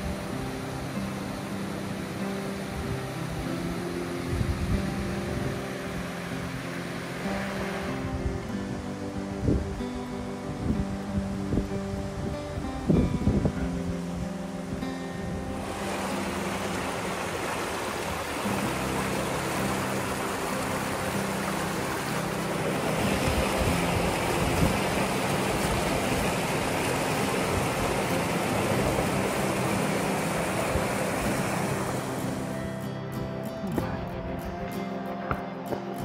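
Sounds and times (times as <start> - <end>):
stream rushing over rocks: 0.0 - 36.0.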